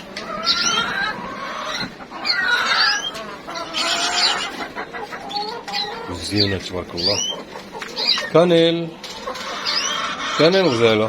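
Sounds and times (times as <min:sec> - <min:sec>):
hens clucking: 0:00.0 - 0:11.0
small birds chirping: 0:00.0 - 0:11.0.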